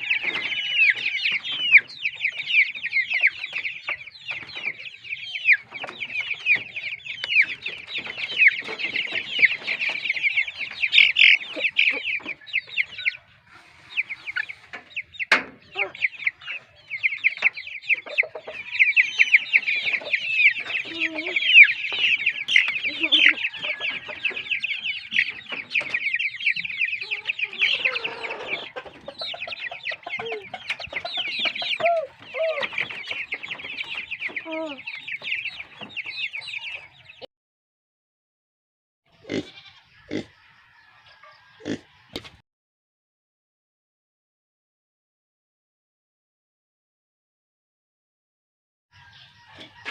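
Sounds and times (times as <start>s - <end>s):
chickens clucking: 0.0s - 37.3s, 39.1s - 42.4s, 49.0s - 49.9s.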